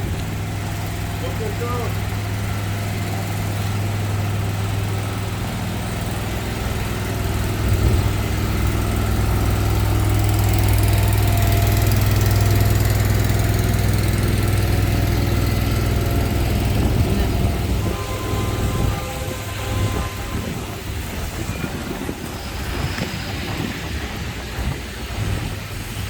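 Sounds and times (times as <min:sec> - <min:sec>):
street noise: 0:00.0 - 0:26.0
vehicle engine running: 0:00.0 - 0:26.0.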